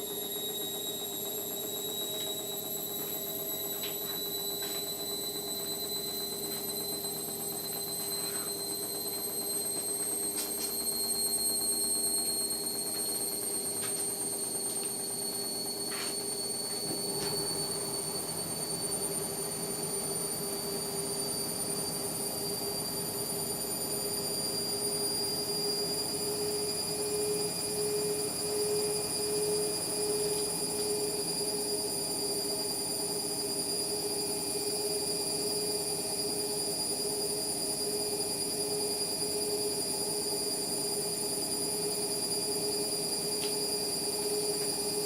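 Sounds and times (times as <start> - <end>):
washing machine motor whine: 0.0 - 45.0.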